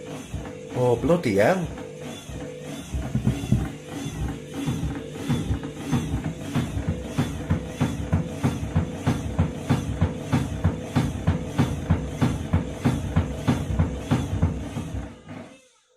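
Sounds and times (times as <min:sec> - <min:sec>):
washing machine drum banging: 0:00.0 - 0:15.1.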